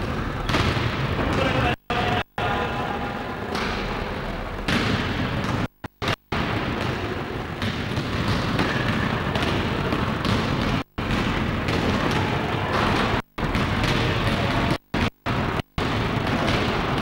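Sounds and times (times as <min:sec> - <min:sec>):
basketball bouncing: 0:00.0 - 0:01.7, 0:03.5 - 0:17.0
echoing gym crowd din: 0:00.0 - 0:05.7, 0:06.4 - 0:17.0.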